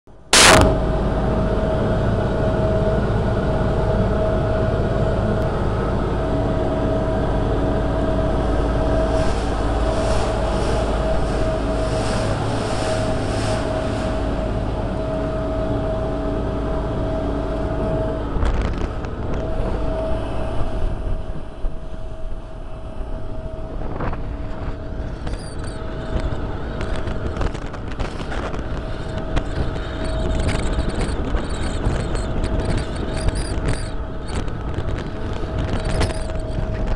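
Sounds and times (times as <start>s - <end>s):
electric boat motor whine: 0.4s - 36.9s
water rushing along hull: 1.8s - 36.9s.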